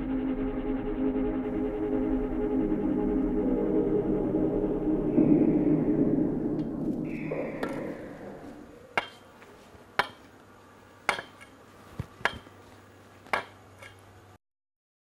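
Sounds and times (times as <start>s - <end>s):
low steady hum: 0.0s - 14.4s.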